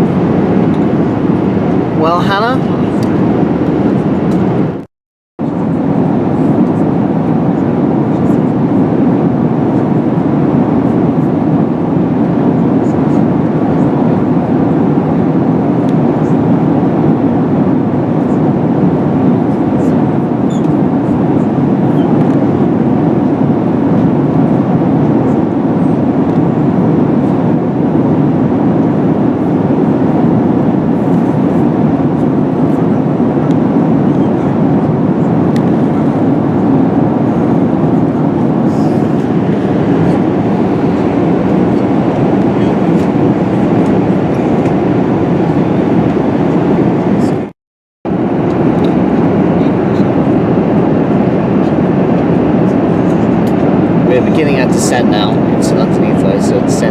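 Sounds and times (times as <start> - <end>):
airplane cabin roar: 0.0 - 56.9.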